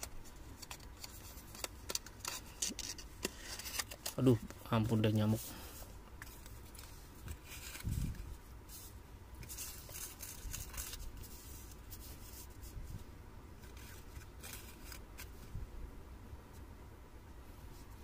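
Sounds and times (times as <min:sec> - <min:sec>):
paper and cardboard rustling: 0:00.0 - 0:13.0, 0:13.6 - 0:15.6.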